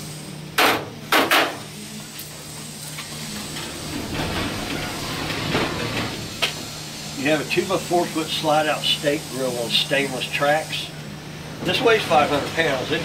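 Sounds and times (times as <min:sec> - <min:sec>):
grill rolling rumble on tracks: 0:01.7 - 0:13.0.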